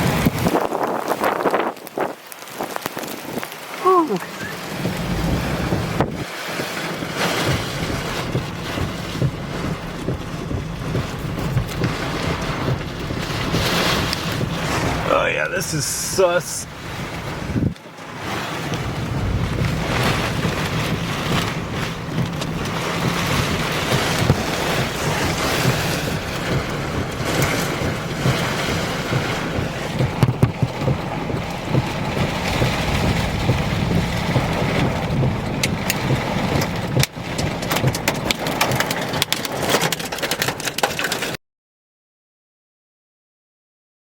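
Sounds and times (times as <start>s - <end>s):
wind buffeting microphone: 0.0s - 39.7s
rain: 0.0s - 41.4s.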